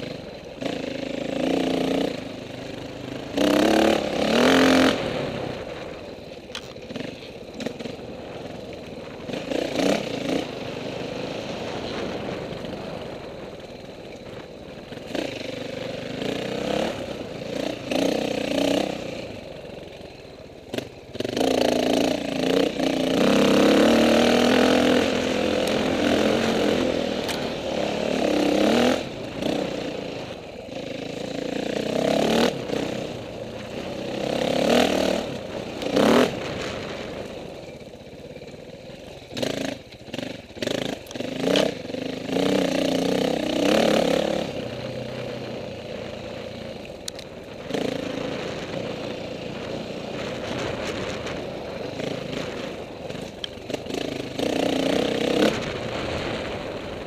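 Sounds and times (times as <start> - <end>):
dirt bike engine revving: 0.0 - 38.0, 38.9 - 57.0.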